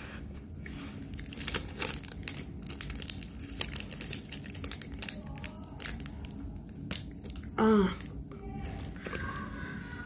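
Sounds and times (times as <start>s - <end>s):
wrapper crinkling: 1.1s - 10.0s.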